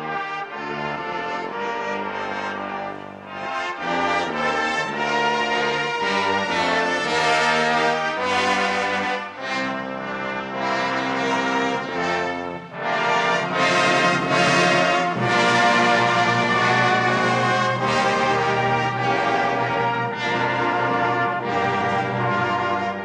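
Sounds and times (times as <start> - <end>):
brass playing slow chords: 0.0 - 23.0.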